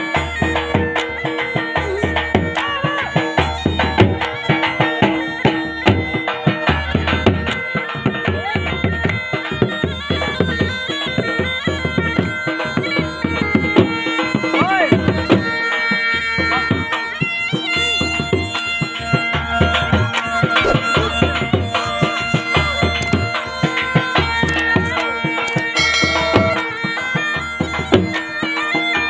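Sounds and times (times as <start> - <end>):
drum beating: 0.0 - 29.0
reed wind instrument melody: 0.0 - 29.0.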